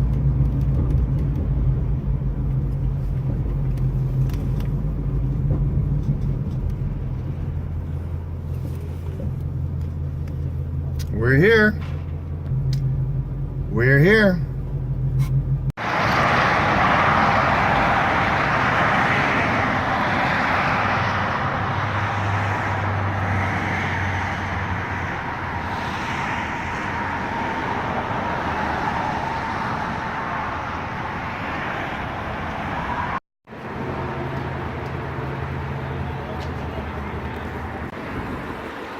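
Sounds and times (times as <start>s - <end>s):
car engine hum: 0.0s - 38.9s
road and tyre noise: 0.0s - 38.9s.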